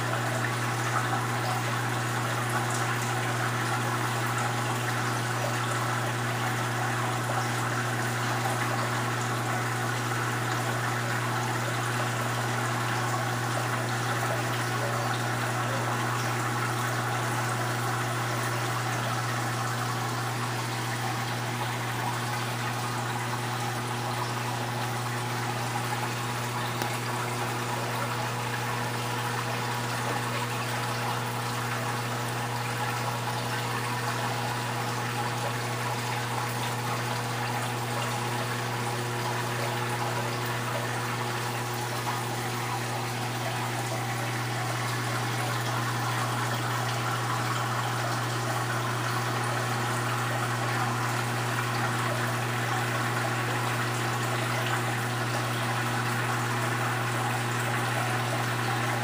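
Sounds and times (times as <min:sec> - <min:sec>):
aquarium pump hum: 0:00.0 - 0:59.0
bubbling trickling water: 0:00.0 - 0:59.0.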